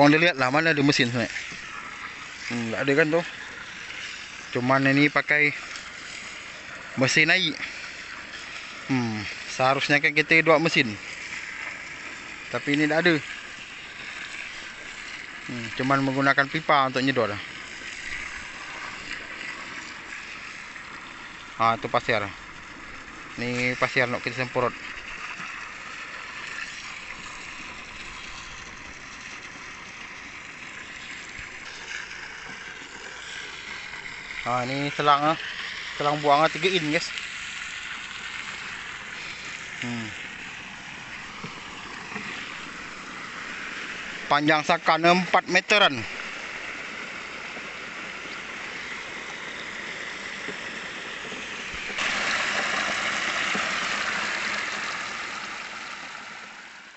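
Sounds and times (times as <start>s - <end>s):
hose water jet hissing into sand: 0.0s - 56.9s.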